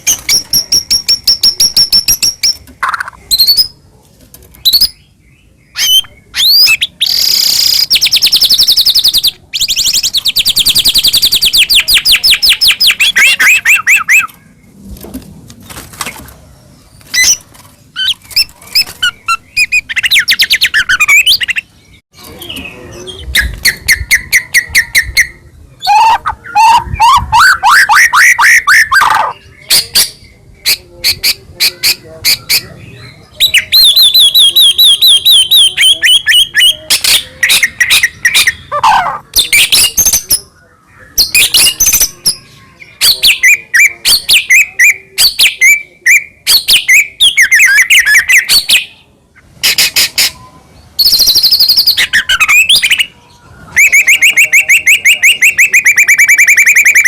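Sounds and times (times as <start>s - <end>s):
bird singing: 4.5s - 14.8s, 16.3s - 57.0s.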